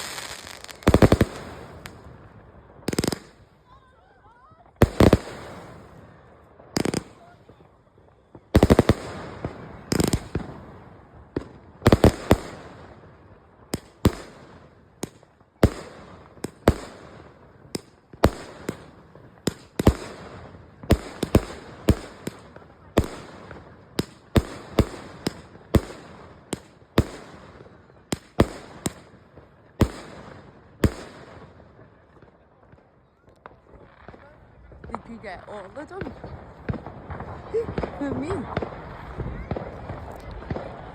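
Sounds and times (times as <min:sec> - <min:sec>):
fireworks exploding: 0:00.0 - 0:40.9.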